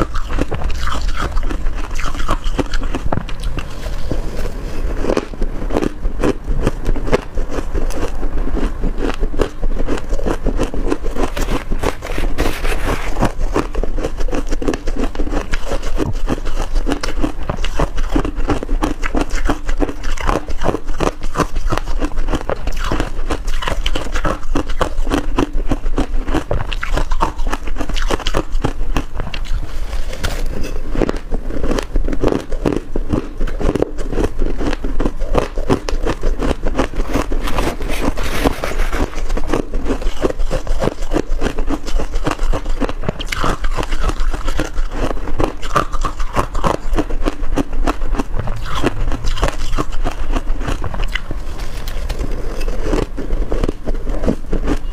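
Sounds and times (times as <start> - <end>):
frost being chewed crunching: 0.0 - 54.9.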